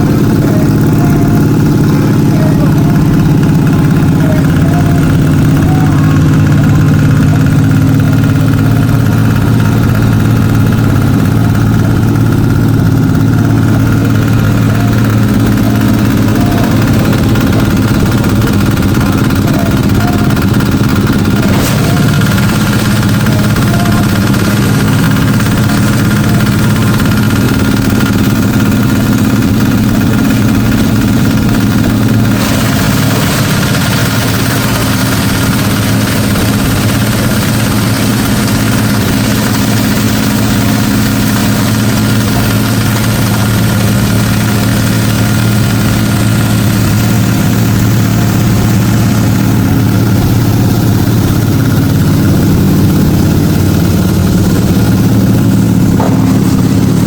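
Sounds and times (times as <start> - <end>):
sorting machine drone: 0.0 - 57.0.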